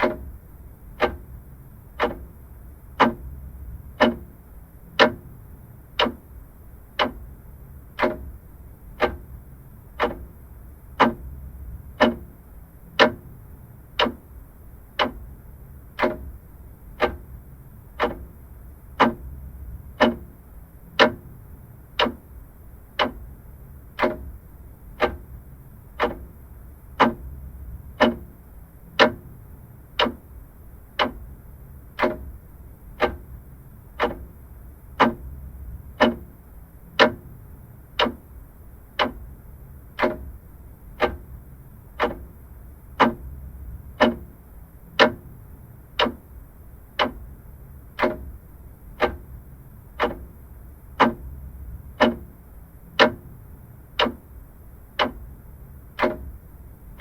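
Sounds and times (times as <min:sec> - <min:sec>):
faint low hum: 0:00.0 - 0:57.0
mechanical clock ticking: 0:00.0 - 0:57.0.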